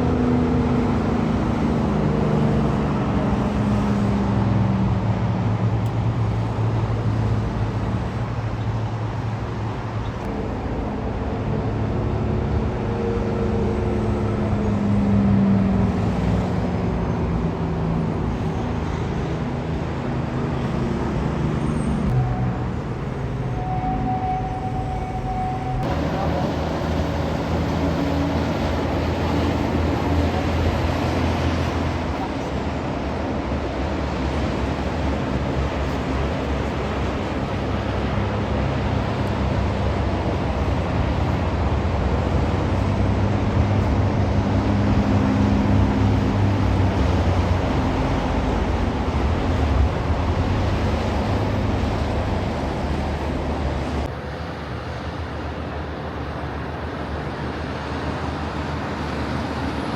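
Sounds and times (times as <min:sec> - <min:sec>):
heavy trucks passing: 0:00.0 - 0:59.9
traffic noise: 0:00.0 - 0:59.9.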